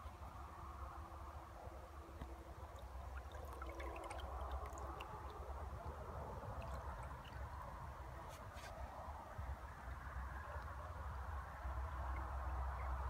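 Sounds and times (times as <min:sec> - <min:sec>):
river water flowing and gurgling: 0:00.0 - 0:13.0.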